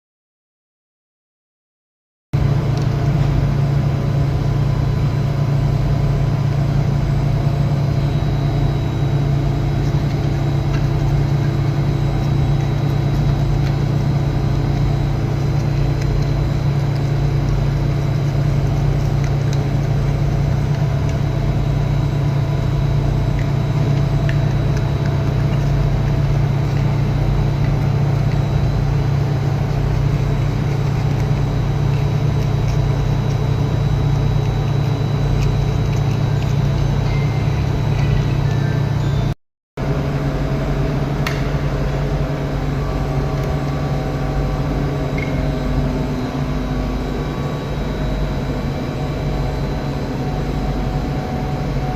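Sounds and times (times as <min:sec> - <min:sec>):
heavy machinery humming: 0:02.4 - 0:51.9.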